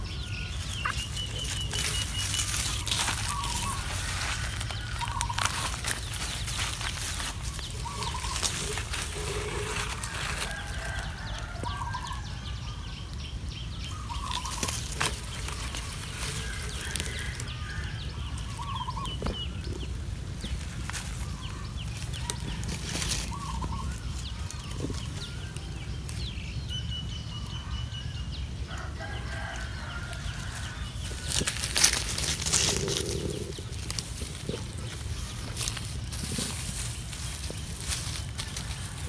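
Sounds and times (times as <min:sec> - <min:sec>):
dry leaves and straw rustling: 0:00.0 - 0:39.0.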